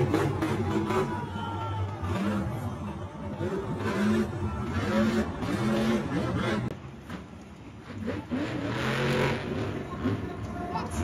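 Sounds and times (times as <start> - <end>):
stadium crowd din: 0.0 - 11.0
truck engine revving: 0.0 - 11.0.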